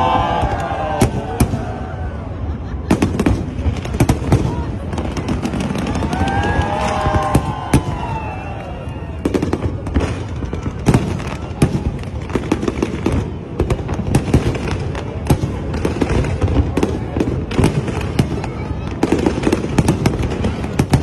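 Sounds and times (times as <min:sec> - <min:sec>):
distant explosions rumbling: 0:00.0 - 0:21.0
firework bangs and crackles: 0:00.0 - 0:21.0.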